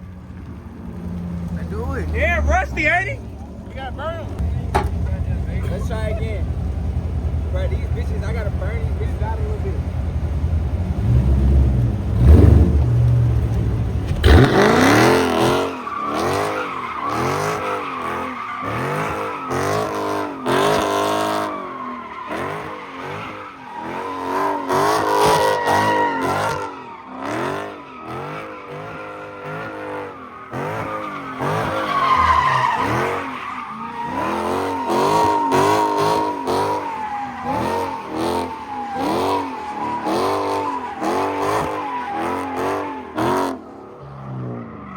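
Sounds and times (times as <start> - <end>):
car engine revving: 0.0 - 44.9
tyres squealing: 1.6 - 10.0, 12.6 - 43.6.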